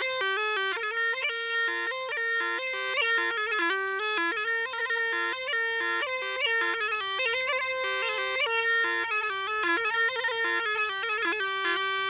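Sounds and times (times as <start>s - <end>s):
bagpipe playing fast melody: 0.0s - 12.0s.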